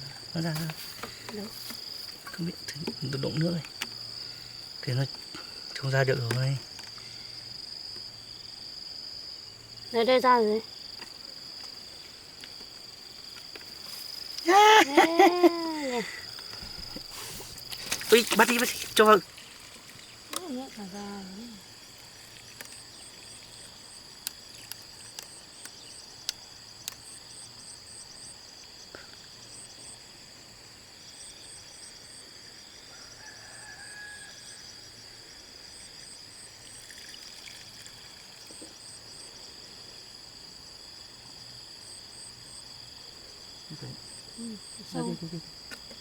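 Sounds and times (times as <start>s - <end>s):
crickets chirping: 0.0s - 46.0s
insects droning: 0.0s - 46.0s.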